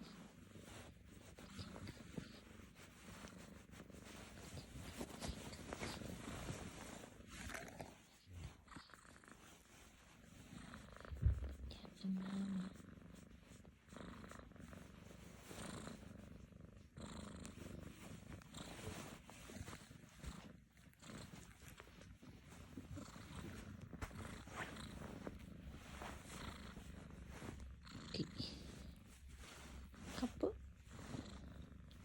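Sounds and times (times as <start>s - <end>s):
kitten purring: 0.0s - 32.0s.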